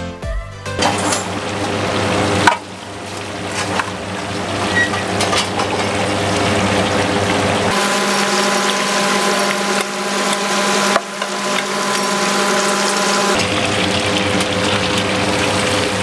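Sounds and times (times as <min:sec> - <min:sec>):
oil sizzling deep-frying: 0:00.8 - 0:16.0.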